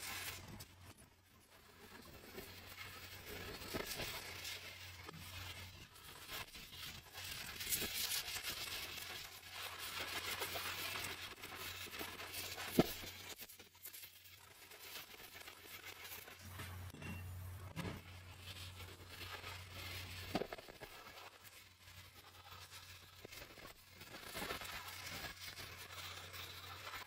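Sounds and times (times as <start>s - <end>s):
rustling and scraping handling noise: 0.0s - 27.0s.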